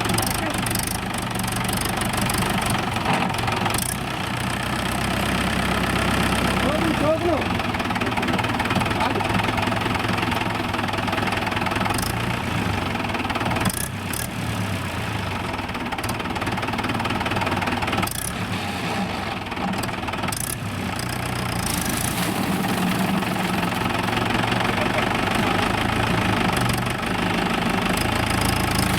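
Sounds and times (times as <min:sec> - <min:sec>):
diesel tractor engine chugging: 0:00.0 - 0:28.9.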